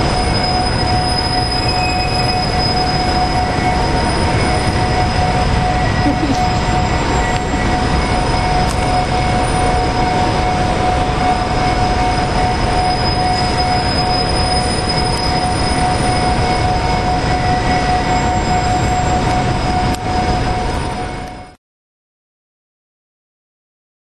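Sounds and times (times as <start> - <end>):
ferry machinery droning: 0.0 - 21.6
steady high whine: 0.0 - 21.6.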